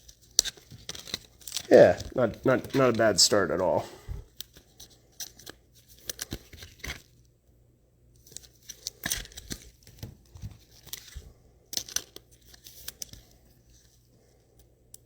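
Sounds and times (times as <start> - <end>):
trading card packaging rustling: 0.0 - 7.1, 8.2 - 14.0.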